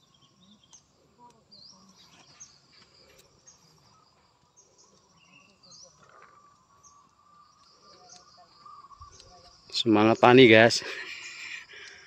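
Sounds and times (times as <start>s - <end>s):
bird chirps: 0.0s - 12.0s
faint insect drone: 0.0s - 12.0s.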